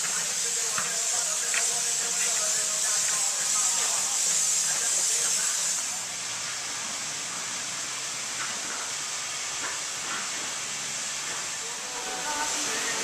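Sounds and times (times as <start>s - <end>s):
water spray hissing: 0.0s - 13.0s.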